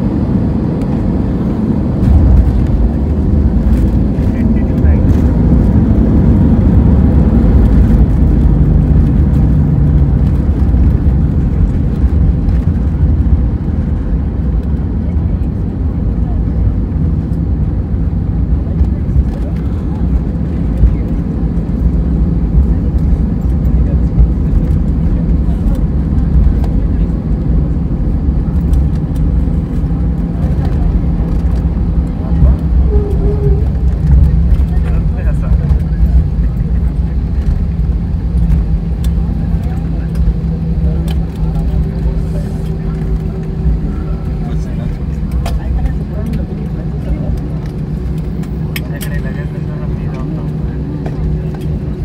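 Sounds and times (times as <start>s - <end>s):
low rumble of engines and wheels: 0.0s - 52.0s.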